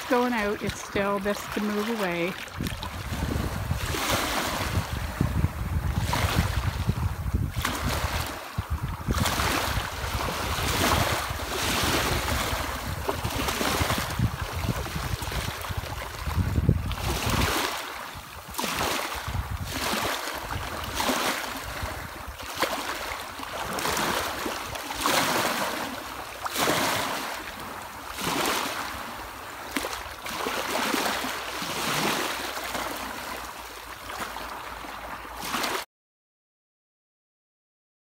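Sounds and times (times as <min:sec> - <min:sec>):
waves lapping over pebbles: 0:00.0 - 0:35.8.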